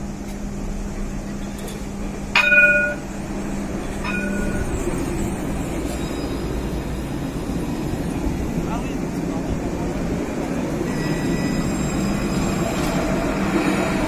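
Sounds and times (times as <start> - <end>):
tram electric hum: 0.0 - 14.0
tram warning bell: 0.8 - 14.0.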